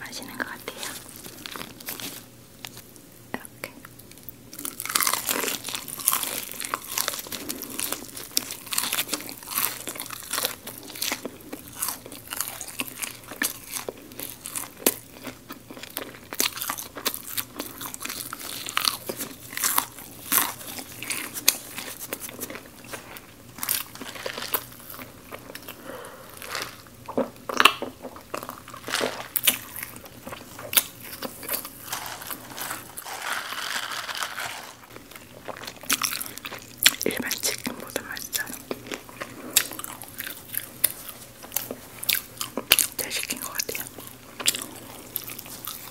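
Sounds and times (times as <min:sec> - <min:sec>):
chewing crispy fried chicken: 0:00.4 - 0:03.1, 0:03.8 - 0:45.9.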